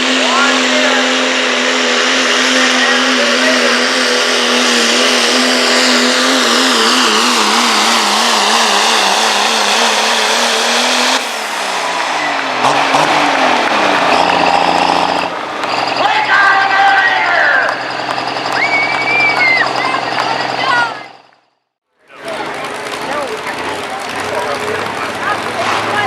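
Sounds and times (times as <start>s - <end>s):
diesel truck engine at full throttle: 0.0s - 26.0s.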